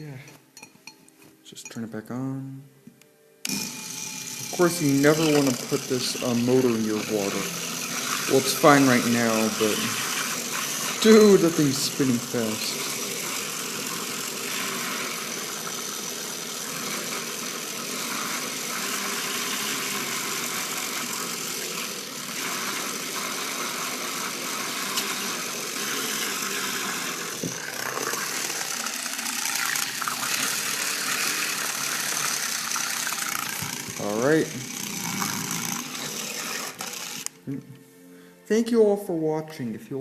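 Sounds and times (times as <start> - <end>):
electric motor and gears running: 3.4 - 37.6.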